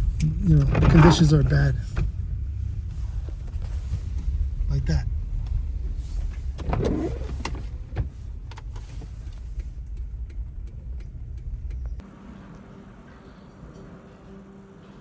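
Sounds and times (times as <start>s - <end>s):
vehicle road and wind rumble: 0.0s - 15.0s.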